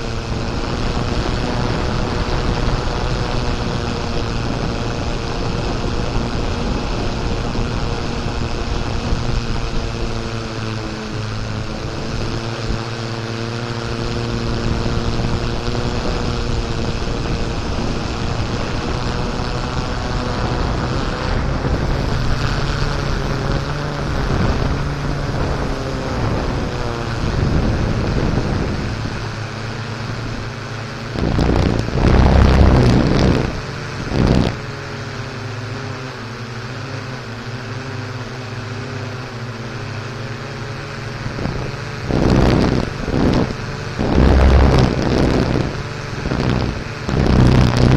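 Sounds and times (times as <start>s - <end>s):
loud rough noise bursts: 0.0s - 47.9s
off-road vehicle engine running: 0.0s - 47.9s
wind buffeting microphone: 0.0s - 47.9s.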